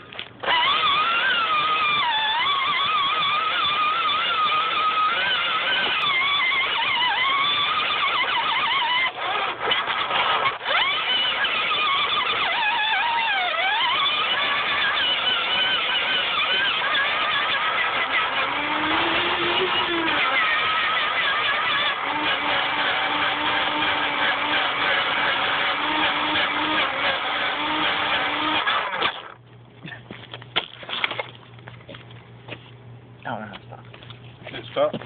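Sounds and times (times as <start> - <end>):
small electric motor whine: 0.2 - 29.4.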